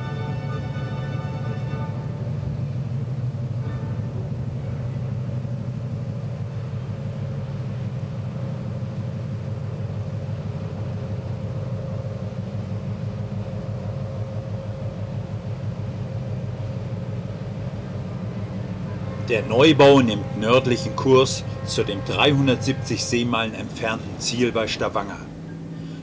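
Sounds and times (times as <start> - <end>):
diesel engines low rumble: 0.0 - 26.0
faint engine hum: 0.0 - 26.0.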